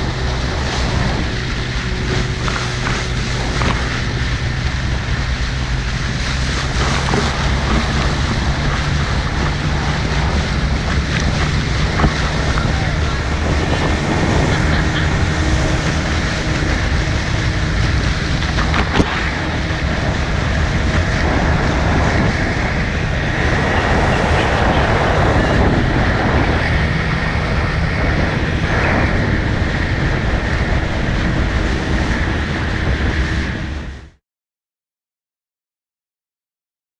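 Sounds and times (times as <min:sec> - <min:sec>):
boat engine running: 0:00.0 - 0:34.2
wind and water rushing: 0:00.0 - 0:34.2.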